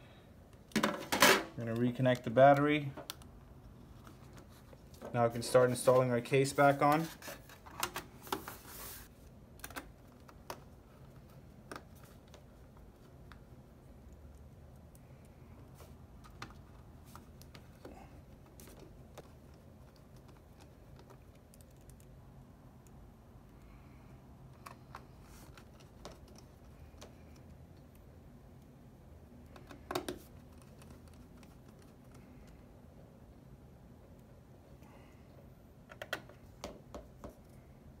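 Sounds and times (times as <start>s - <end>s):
low room hum: 0.0s - 38.0s.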